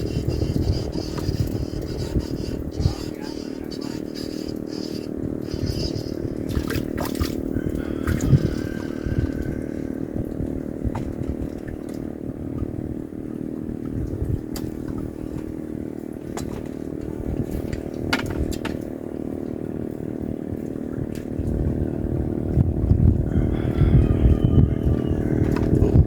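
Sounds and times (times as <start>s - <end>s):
motor running with low rumble: 0.0s - 26.0s.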